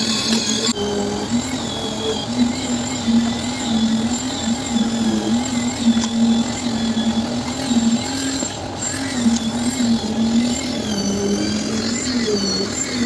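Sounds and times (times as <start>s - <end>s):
concrete mixer engine running: 0.0s - 13.0s.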